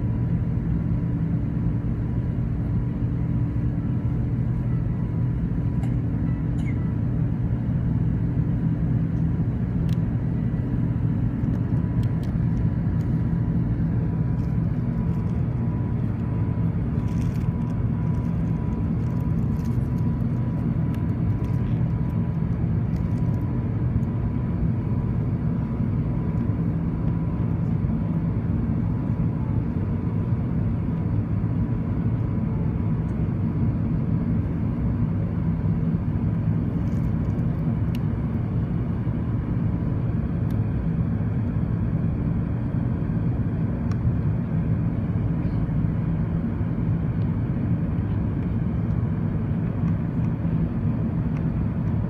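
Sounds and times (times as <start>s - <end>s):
jet engine cabin drone: 0.0s - 52.0s.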